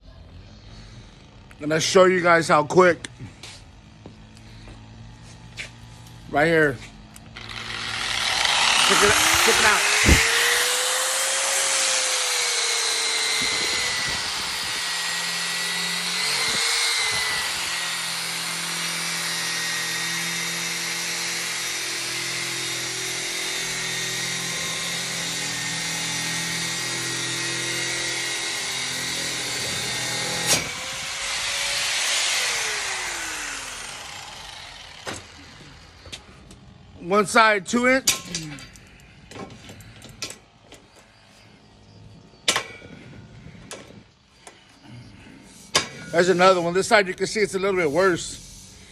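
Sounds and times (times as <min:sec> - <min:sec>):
abrasive tool on metal railing: 0:01.6 - 0:41.5, 0:42.4 - 0:48.9.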